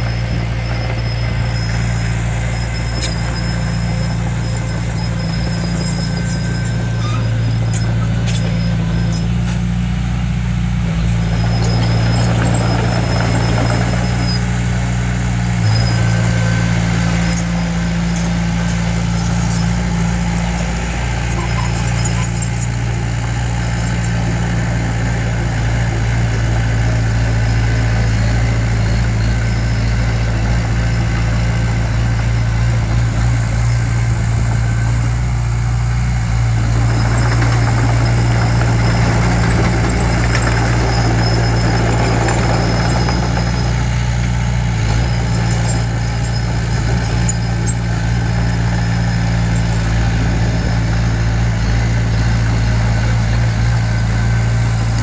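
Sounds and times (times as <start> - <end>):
diesel engine of earthmoving equipment: 0.0 - 55.0.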